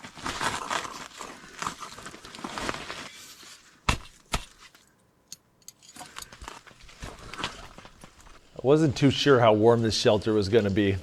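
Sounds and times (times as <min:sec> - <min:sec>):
rustling and crunching: 0:00.0 - 0:05.0, 0:05.8 - 0:11.0.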